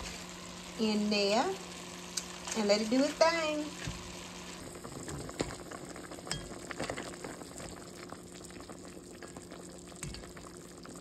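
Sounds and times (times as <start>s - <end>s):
meat sizzling and crackling: 0.0s - 11.0s.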